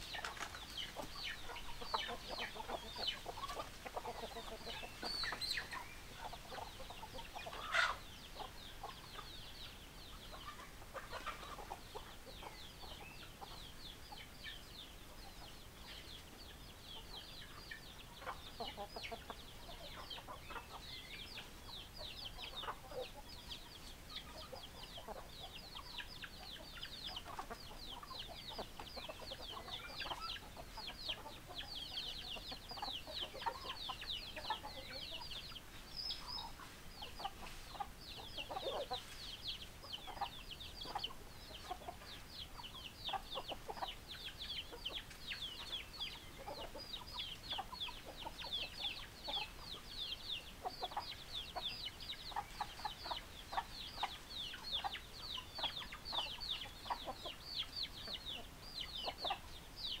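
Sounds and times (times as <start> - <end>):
chicks peeping: 0.0 - 60.0
hens clucking: 0.0 - 60.0.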